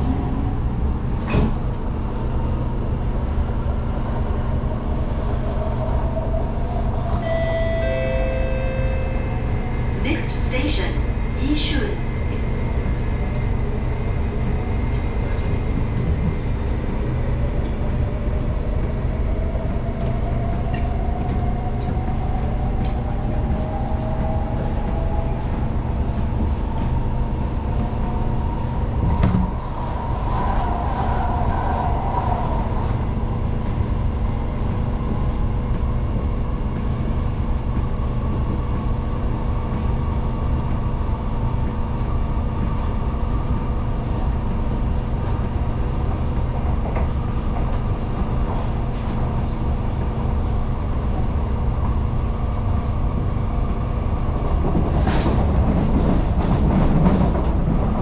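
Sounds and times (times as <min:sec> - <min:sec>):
train wheels rumbling on rail: 0:09.4 - 0:58.0.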